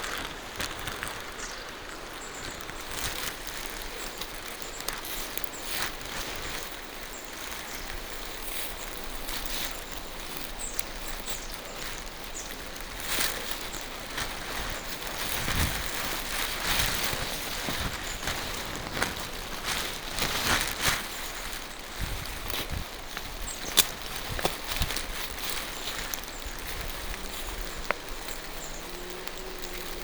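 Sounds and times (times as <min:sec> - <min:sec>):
rain falling through trees: 0:00.0 - 0:30.0.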